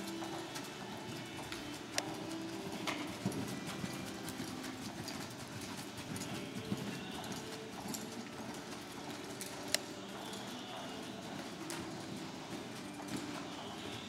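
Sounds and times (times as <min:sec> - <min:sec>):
horse hoofbeats on soft dirt: 0:00.0 - 0:14.0.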